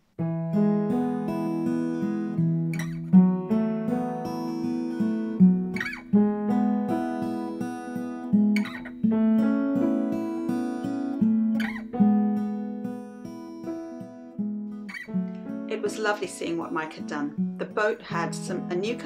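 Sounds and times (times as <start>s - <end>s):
strummed acoustic guitar: 0.2s - 19.0s.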